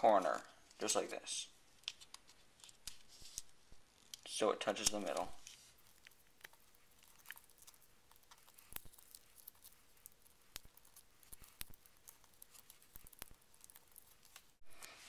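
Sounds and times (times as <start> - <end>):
paper being folded: 1.8 - 15.0.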